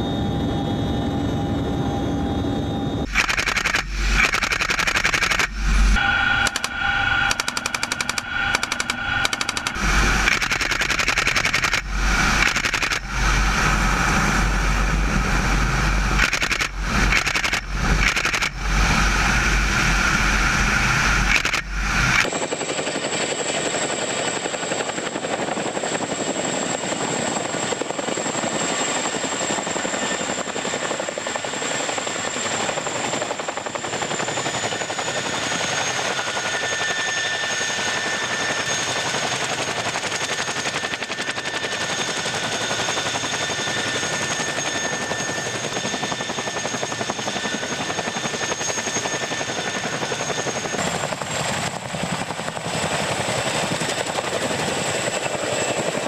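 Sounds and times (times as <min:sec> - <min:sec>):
helicopter rotor noise: 0:00.0 - 0:56.0
high turbine whine: 0:00.0 - 0:56.0.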